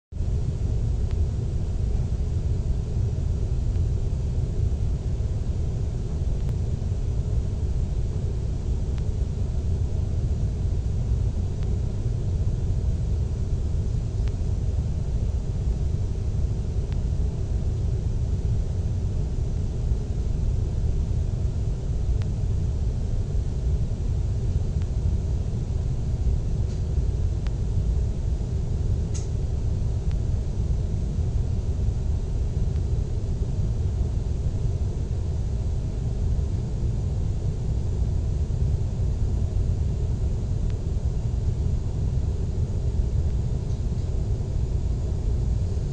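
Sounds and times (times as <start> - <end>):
airliner cabin rumble: 0.2 - 45.9.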